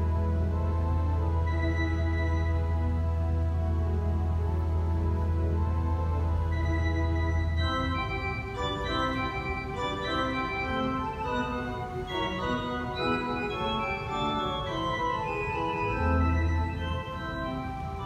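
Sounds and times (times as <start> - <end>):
church organ playing: 0.0 - 18.0.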